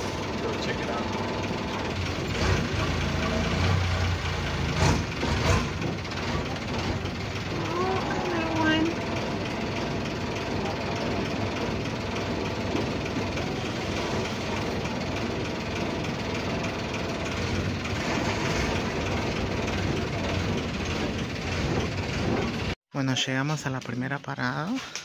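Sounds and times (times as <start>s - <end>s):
boat engine running: 0.0s - 22.8s.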